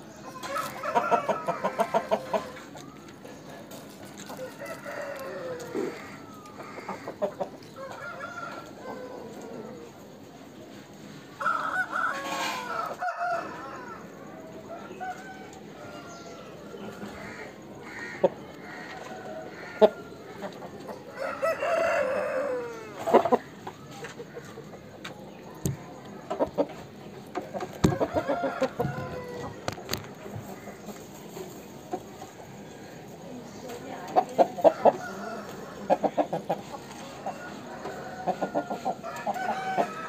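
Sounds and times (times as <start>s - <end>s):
roosters crowing: 0.2s - 10.2s, 11.3s - 24.6s, 26.4s - 40.0s.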